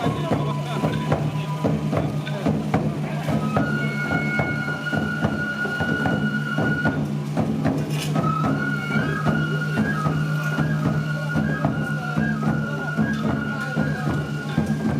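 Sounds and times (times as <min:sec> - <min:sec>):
flute melody: 0:00.0 - 0:14.9
steady drumbeats: 0:00.0 - 0:14.9.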